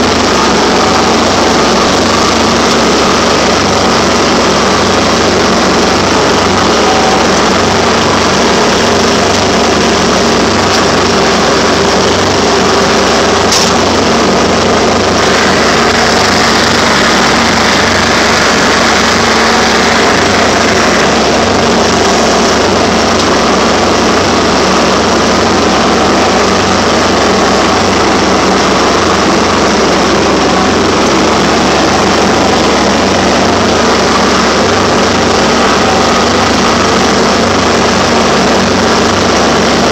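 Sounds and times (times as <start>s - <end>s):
mower blades spinning: 0.0s - 39.9s
tractor diesel engine running: 0.0s - 39.9s.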